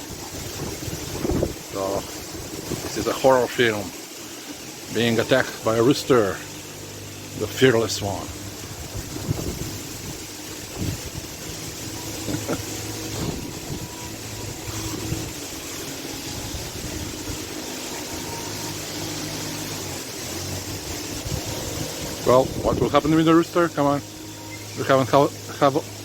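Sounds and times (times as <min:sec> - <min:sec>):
background hiss: 0:00.0 - 0:26.0
low mechanical hum: 0:00.0 - 0:26.0.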